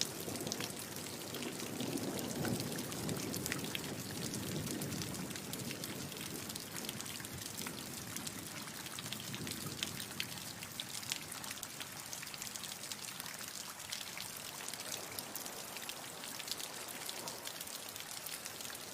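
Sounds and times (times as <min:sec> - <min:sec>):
rain pattering on a hard surface: 0:00.0 - 0:18.9.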